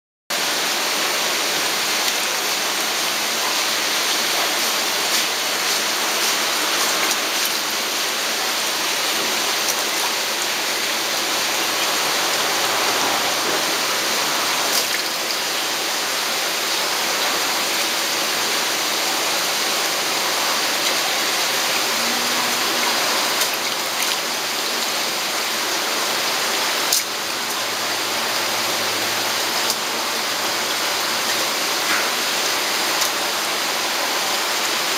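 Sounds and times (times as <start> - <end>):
water pouring into tank: 1.2 - 34.9.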